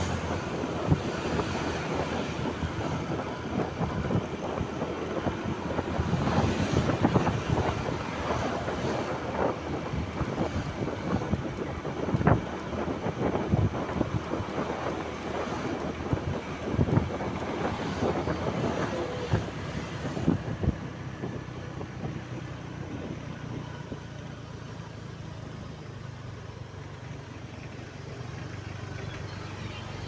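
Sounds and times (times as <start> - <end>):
wind noise on microphone: 0.0 - 24.2
vehicle running: 0.0 - 30.0.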